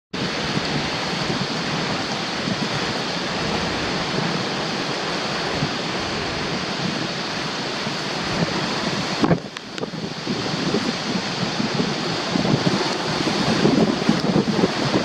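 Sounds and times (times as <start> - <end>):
driving rain: 0.1 - 15.0
typhoon wind: 0.2 - 15.0
wind gusts rumbling on microphone: 0.2 - 15.0.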